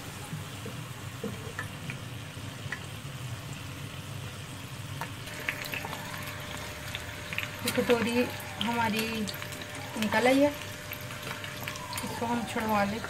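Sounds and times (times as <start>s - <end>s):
dough sizzling in hot oil: 0.0s - 13.0s.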